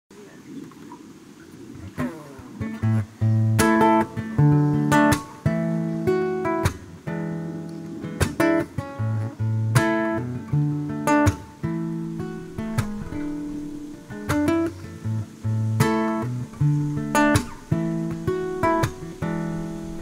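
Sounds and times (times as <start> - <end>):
acoustic guitar strumming: 1.8 - 20.0.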